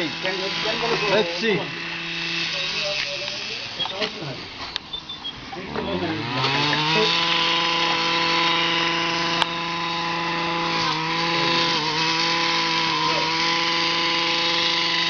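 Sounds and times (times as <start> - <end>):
model aircraft engine revving: 0.0 - 15.0.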